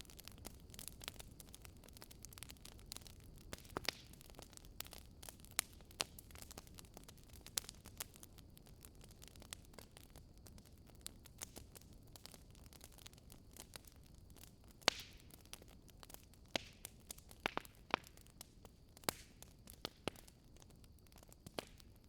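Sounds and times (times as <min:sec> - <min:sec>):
fire pops and snaps: 0:00.0 - 0:22.0
wood fire crackling: 0:00.0 - 0:22.0.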